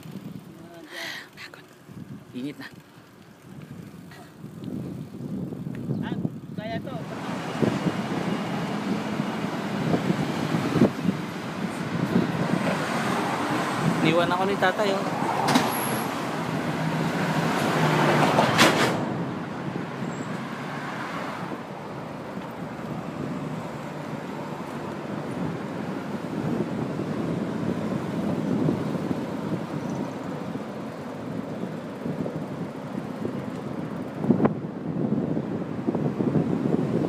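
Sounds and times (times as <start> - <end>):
wind noise: 0.0 - 0.7, 1.8 - 37.0
trucks and cars passing: 0.0 - 37.0.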